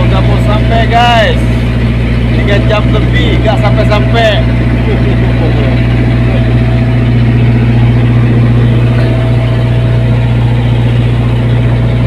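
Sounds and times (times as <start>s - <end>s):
boat engine low drone: 0.0s - 12.0s.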